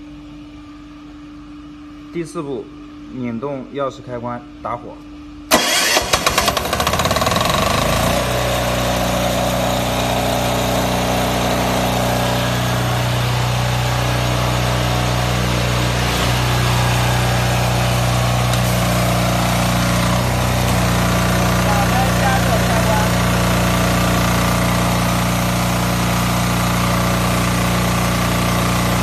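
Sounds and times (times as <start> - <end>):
diesel engine starting and running: 5.5 - 29.0.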